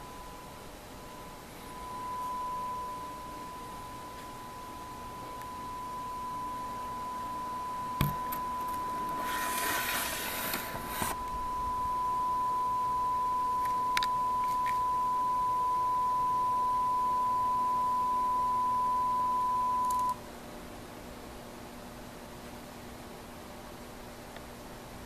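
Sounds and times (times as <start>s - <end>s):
steady test tone: 0.0s - 20.2s.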